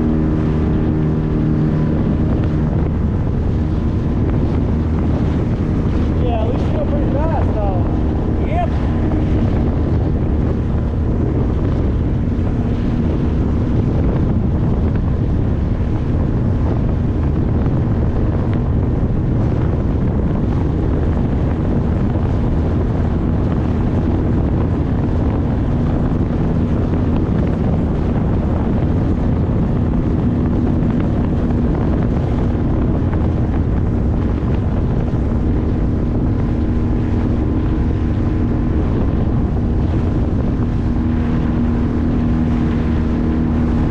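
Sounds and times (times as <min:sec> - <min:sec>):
outboard motor droning: 0:00.0 - 0:43.9
wind buffeting microphone: 0:00.0 - 0:43.9.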